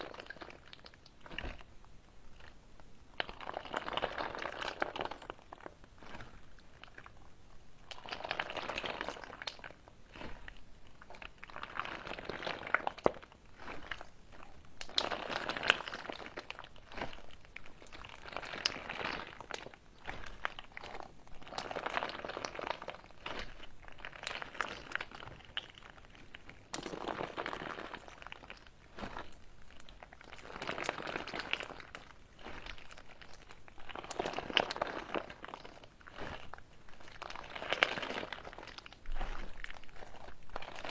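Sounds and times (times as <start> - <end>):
slime squeezed wet crackling: 0.0 - 1.7, 2.3 - 40.9.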